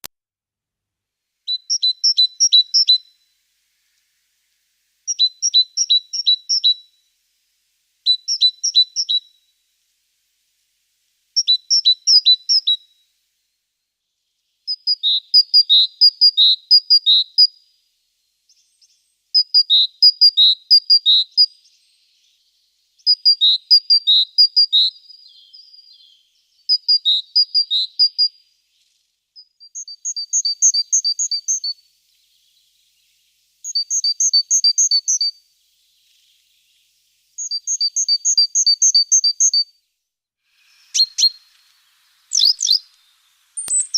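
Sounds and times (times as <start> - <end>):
small songbird singing: 1.4 - 43.9.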